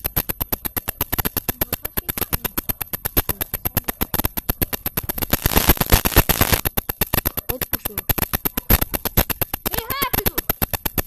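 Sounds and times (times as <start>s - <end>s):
rapid sharp clicking: 0.0s - 11.0s.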